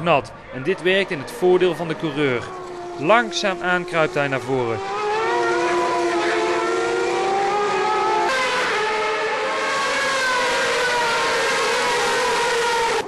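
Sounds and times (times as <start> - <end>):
race car engine at high revs: 0.9 - 13.0.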